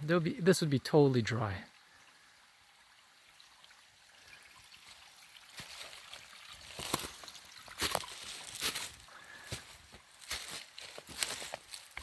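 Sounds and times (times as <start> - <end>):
stream trickling: 0.0 - 12.0.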